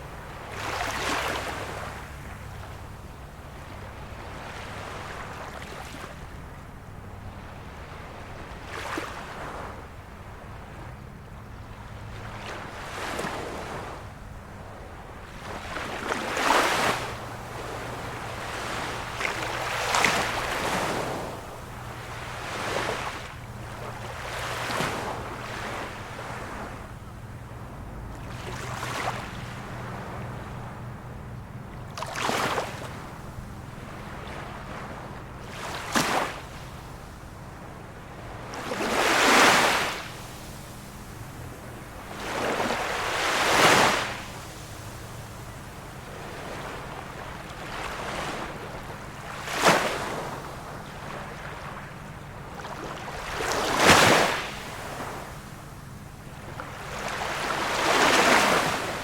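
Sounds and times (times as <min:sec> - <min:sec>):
small waves washing on shore: 0:00.0 - 0:59.0.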